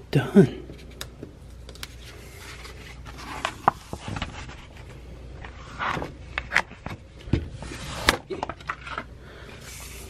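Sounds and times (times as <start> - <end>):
vinyl sheet crinkling: 0.8 - 9.1.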